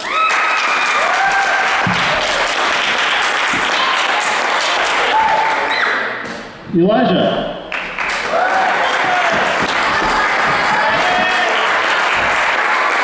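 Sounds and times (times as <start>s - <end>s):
audience applauding: 0.0s - 6.0s, 7.7s - 13.0s.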